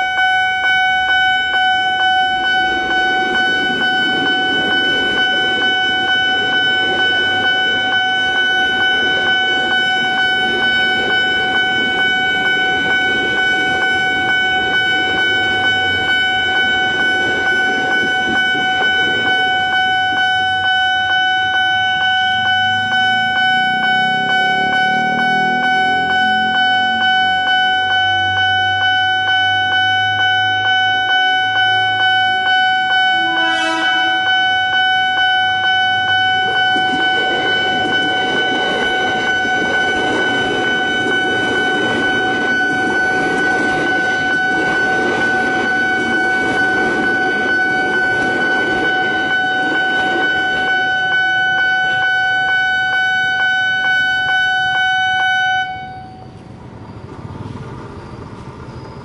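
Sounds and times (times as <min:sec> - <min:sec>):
level crossing bell ringing: 0:00.0 - 0:56.4
electric train rumbling: 0:00.0 - 0:59.0.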